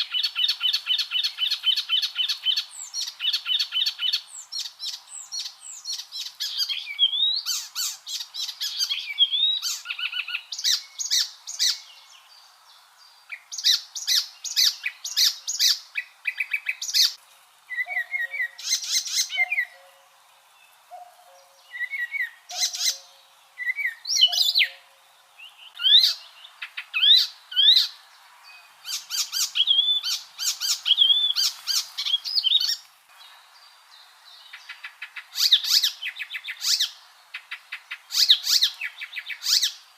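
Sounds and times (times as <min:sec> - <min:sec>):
warbler singing: 0:00.0 - 0:39.9.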